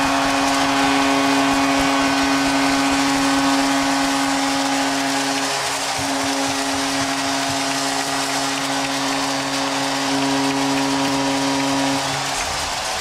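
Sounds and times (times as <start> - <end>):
arena goal horn: 0.0 - 13.0
crowd cheering: 0.0 - 13.0.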